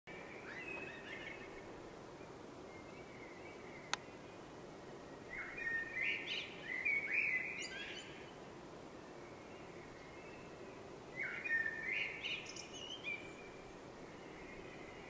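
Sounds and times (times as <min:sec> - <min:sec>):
birds singing: 0:00.1 - 0:08.4, 0:09.0 - 0:15.0
background noise: 0:00.1 - 0:15.0.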